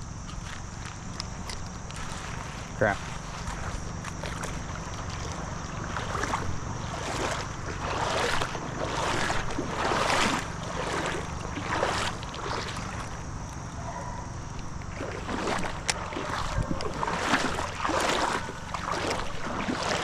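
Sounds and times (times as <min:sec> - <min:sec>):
creek water sloshing: 0:00.0 - 0:20.0.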